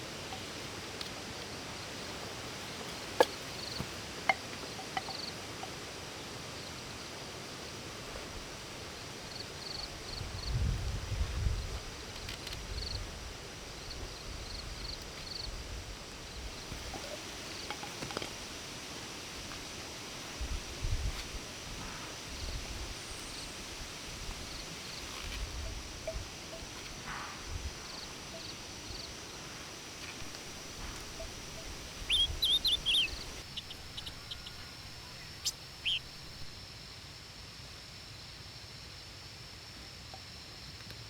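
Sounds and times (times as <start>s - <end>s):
insects chirping: 0.0s - 41.0s
steady hiss: 0.0s - 41.0s.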